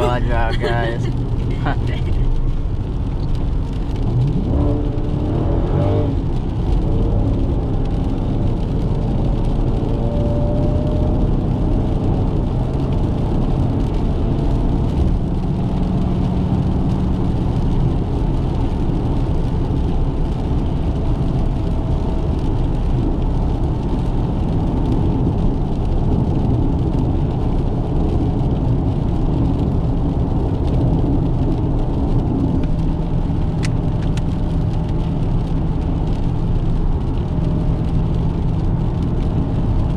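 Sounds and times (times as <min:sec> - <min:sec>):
car engine running: 0:00.0 - 0:39.9
road and tyre noise: 0:00.0 - 0:39.9.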